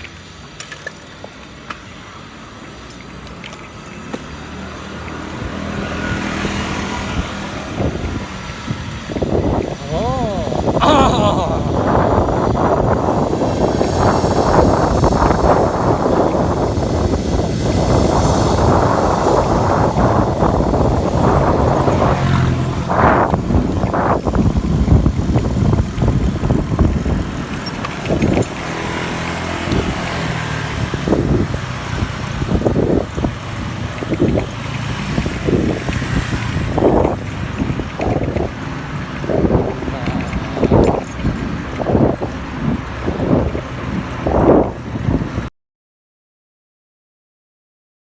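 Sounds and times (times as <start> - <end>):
wind buffeting microphone: 4.9 - 45.5.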